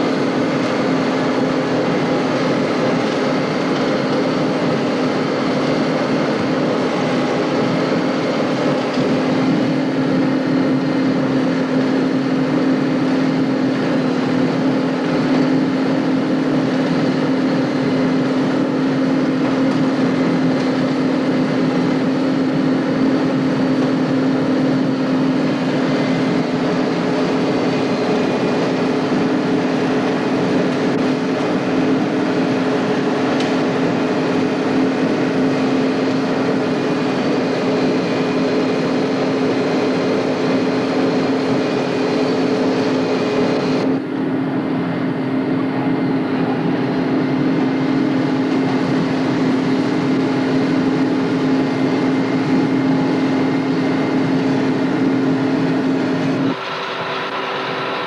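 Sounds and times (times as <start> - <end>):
combine harvester droning: 0.0 - 58.0.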